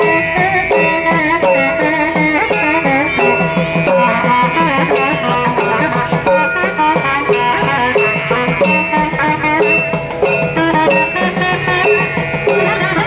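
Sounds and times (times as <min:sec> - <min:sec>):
ornamented instrumental melody: 0:00.0 - 0:13.0
quick steady drum strokes: 0:00.0 - 0:13.0.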